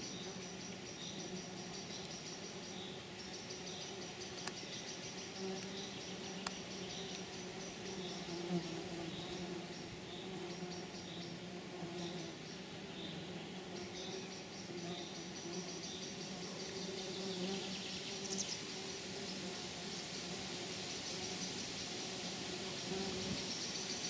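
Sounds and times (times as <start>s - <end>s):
insects buzzing hum: 0.0s - 24.0s.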